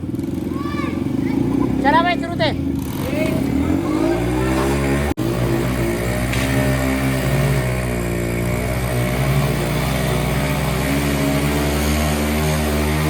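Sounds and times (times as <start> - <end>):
motorcycle engines running hard: 0.0 - 13.0.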